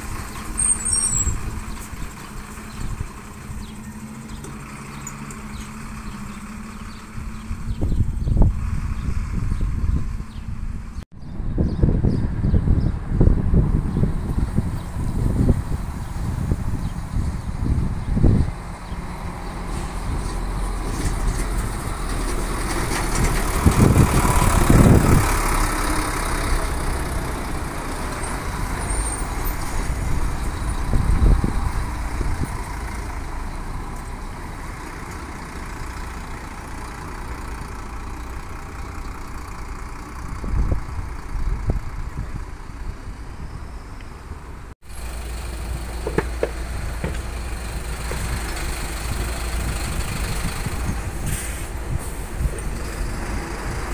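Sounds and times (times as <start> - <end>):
coach engine approaching: 0.0 - 53.9.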